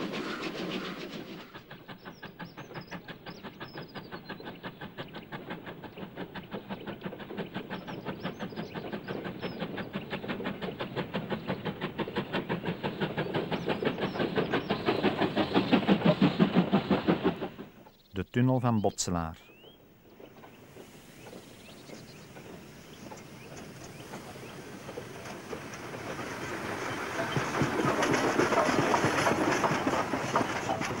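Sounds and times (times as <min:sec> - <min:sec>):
steam locomotive chuffing: 0:00.0 - 0:31.0.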